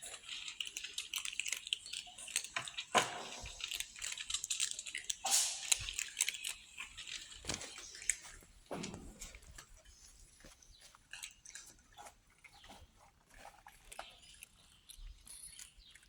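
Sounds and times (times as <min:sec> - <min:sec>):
kittens chewing and crunching: 0:00.0 - 0:16.0.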